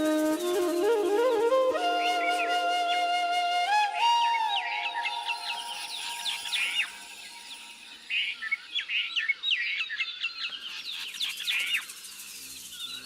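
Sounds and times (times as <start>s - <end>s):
birds chirping: 2.2s - 13.0s.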